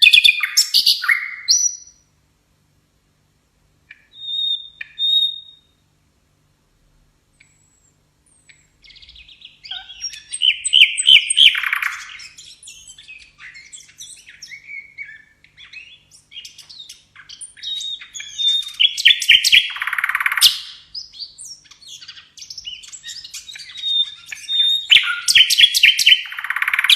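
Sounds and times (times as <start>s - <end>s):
songbird singing trills: 0.0s - 2.2s, 3.9s - 5.9s, 7.4s - 26.9s.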